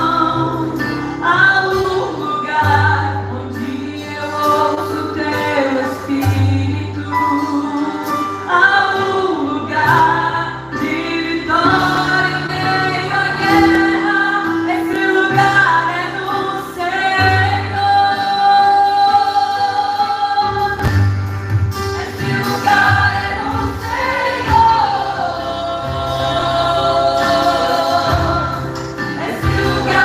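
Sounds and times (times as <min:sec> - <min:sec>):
voices singing gospel: 0:00.0 - 0:20.9, 0:21.8 - 0:30.0
band playing: 0:00.0 - 0:30.0.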